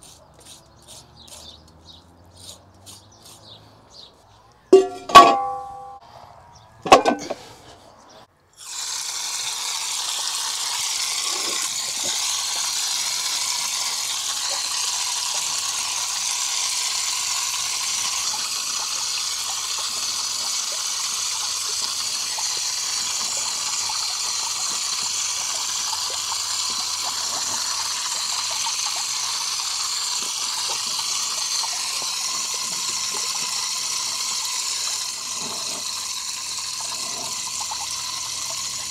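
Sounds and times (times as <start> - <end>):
water spraying on concrete: 0.0 - 3.6, 8.6 - 38.9.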